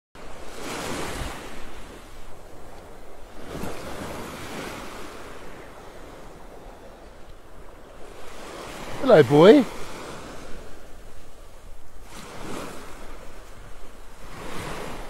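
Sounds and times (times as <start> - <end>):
small waves washing ashore: 0.2 - 15.0
wind on microphone: 0.2 - 15.0.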